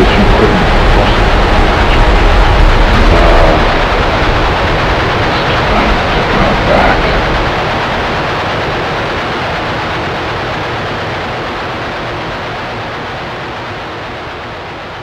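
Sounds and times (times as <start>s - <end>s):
rumbling noise drone: 0.0s - 15.0s.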